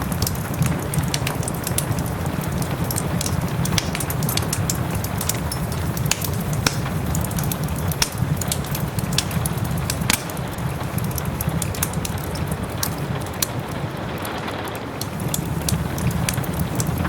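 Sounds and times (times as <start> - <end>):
soft rain: 0.0 - 17.0
wood fire crackling: 0.0 - 17.0.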